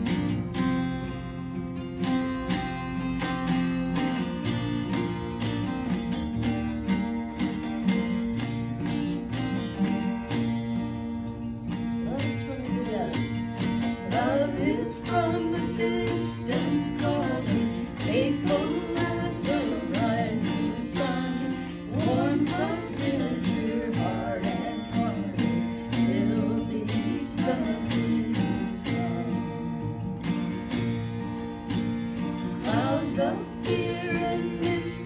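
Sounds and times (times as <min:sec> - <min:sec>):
acoustic guitar: 0:00.0 - 0:35.0.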